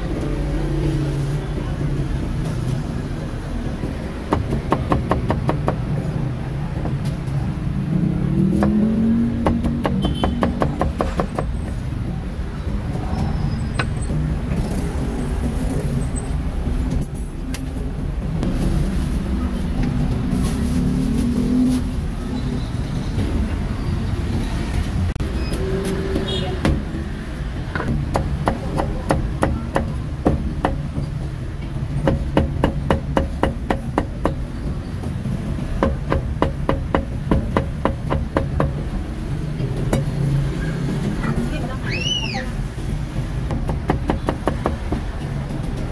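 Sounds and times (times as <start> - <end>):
street traffic rumble: 0.0 - 45.9.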